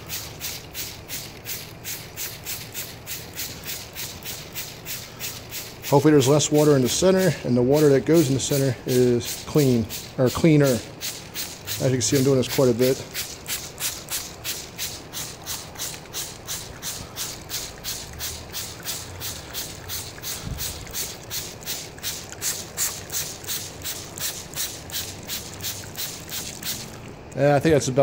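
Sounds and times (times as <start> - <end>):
spray bottle squirting hiss: 0.0 - 27.1.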